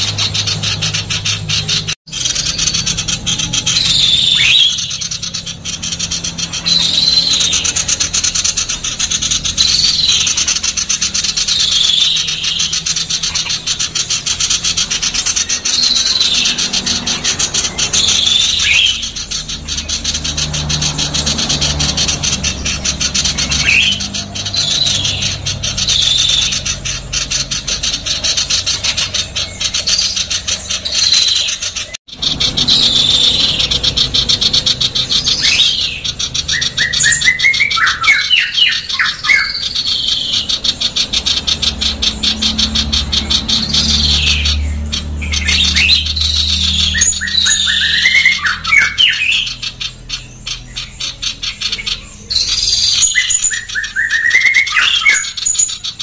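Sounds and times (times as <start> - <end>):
bird rasping chatter: 0.0 - 56.0.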